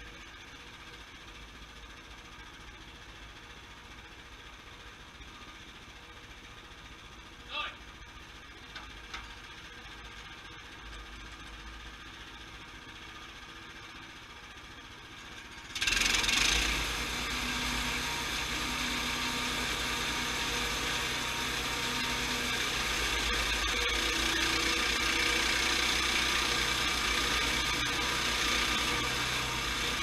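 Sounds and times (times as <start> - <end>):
sawmill engine running: 0.1 - 30.0.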